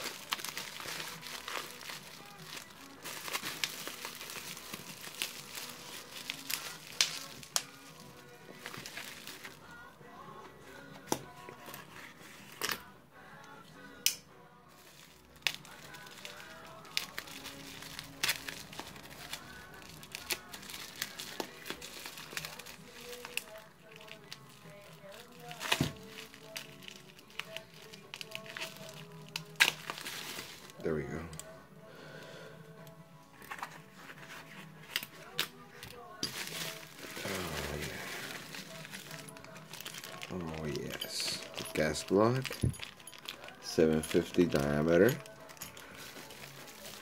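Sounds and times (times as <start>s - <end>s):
bubble wrap crinkling: 0.0s - 9.9s, 14.7s - 31.4s, 33.3s - 47.0s.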